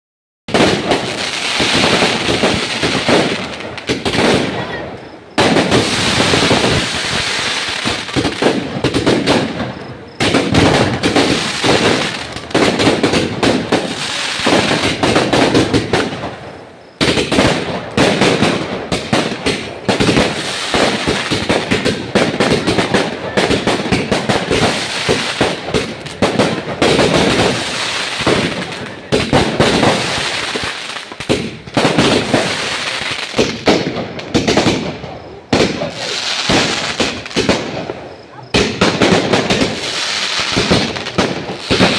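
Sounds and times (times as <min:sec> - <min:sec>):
firework fountain crackling: 0:00.5 - 0:41.9.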